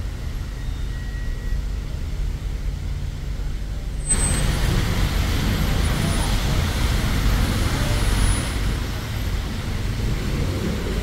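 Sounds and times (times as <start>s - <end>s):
traffic on wet street: 0.0s - 11.0s.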